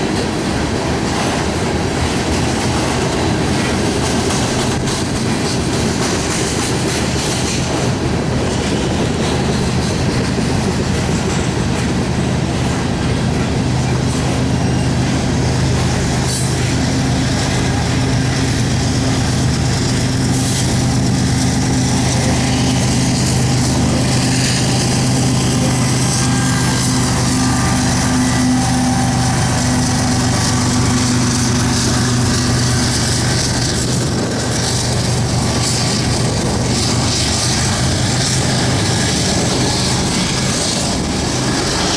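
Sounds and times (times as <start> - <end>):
train cars rolling past: 0.0 - 41.9
low engine hum: 7.9 - 41.9.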